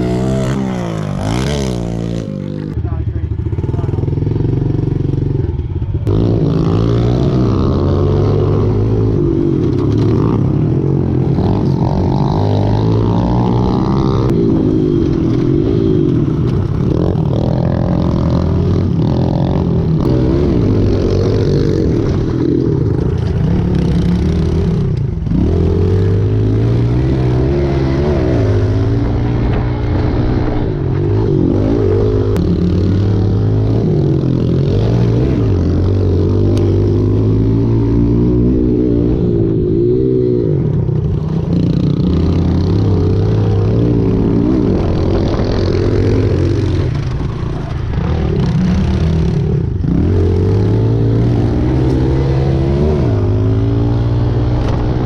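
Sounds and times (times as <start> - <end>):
pit bike engines revving: 0.0 - 55.0.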